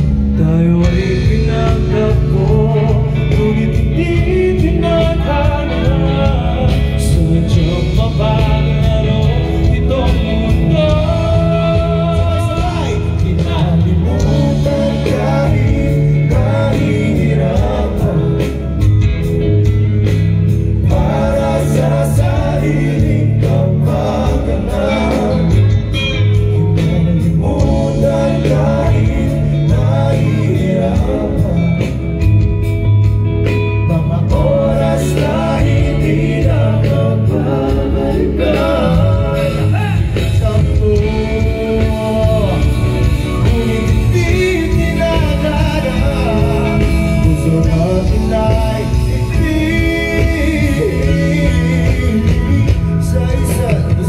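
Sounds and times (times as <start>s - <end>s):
live pop-rock band playing: 0.0s - 54.0s
man singing lead: 0.0s - 54.0s.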